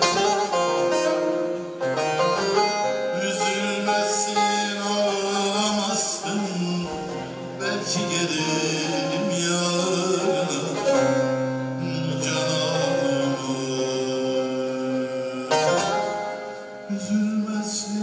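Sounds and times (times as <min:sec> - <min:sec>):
long-necked lute plucked and strummed: 0:00.0 - 0:18.0
man singing long notes: 0:00.0 - 0:18.0.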